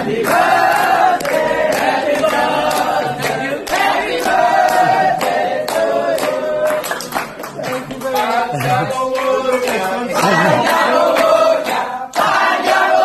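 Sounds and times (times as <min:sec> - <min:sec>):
hand claps: 0:00.0 - 0:13.0
young men singing together: 0:00.0 - 0:13.0.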